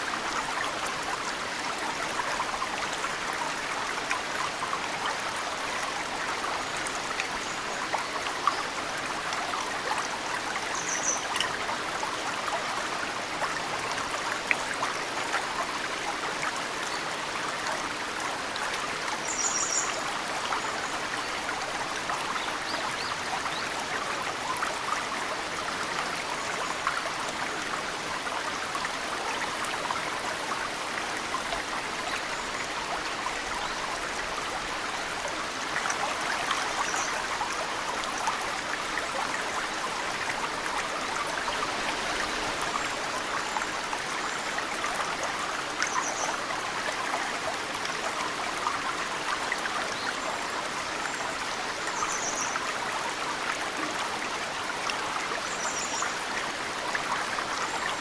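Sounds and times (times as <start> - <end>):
stream flowing: 0.0 - 58.0
water dripping and trickling: 0.0 - 58.0.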